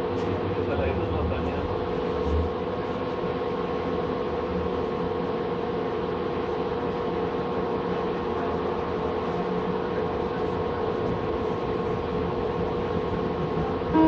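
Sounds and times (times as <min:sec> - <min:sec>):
light-rail car rumbling: 0:00.0 - 0:14.0.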